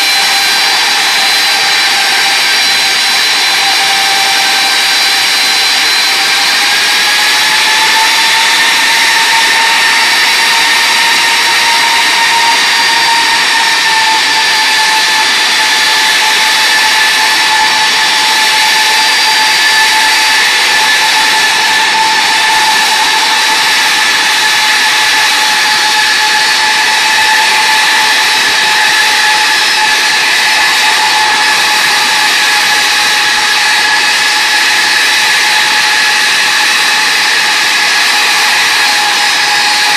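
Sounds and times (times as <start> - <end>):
jet engine whine and roar: 0.0 - 39.9.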